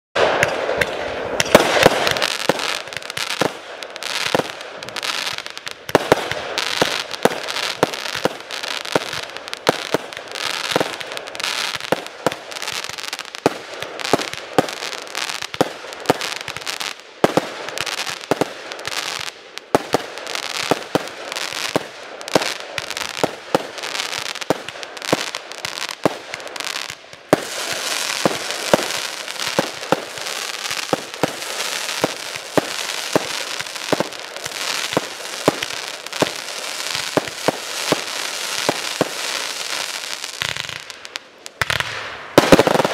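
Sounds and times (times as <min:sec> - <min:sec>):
firework bangs: 0:00.2 - 0:42.9
firework crackle: 0:00.2 - 0:42.9.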